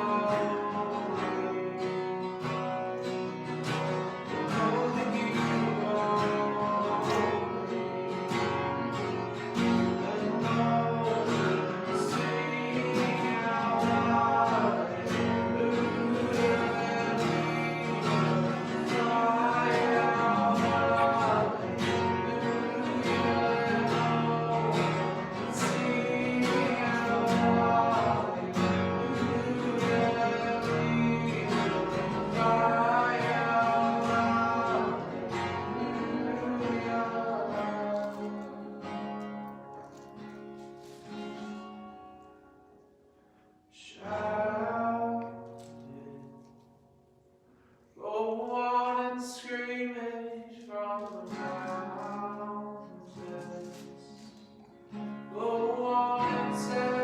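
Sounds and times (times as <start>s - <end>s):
worship music with strummed guitar: 0.0s - 57.0s.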